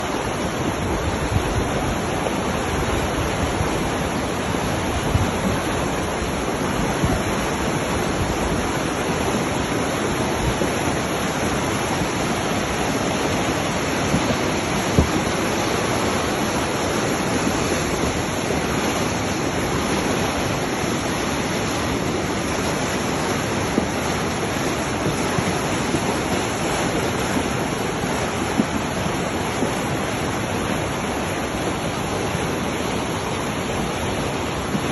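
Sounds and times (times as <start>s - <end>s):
river rushing through whitewater: 0.0s - 34.9s.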